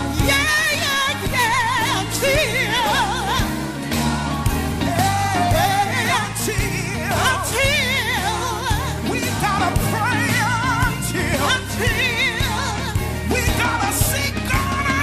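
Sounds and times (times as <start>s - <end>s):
band accompaniment: 0.0s - 15.0s.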